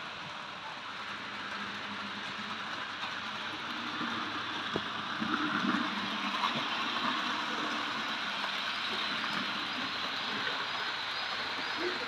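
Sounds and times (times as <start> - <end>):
model trains running: 0.0 - 12.0.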